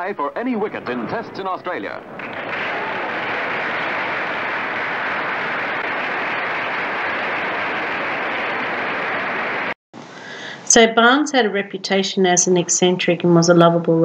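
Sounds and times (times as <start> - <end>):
film soundtrack hiss: 0.0 - 11.6.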